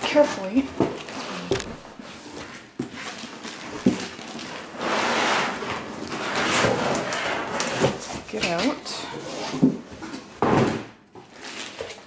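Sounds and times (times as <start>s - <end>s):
packaging rustling and scraping: 0.1s - 10.4s, 11.2s - 12.0s.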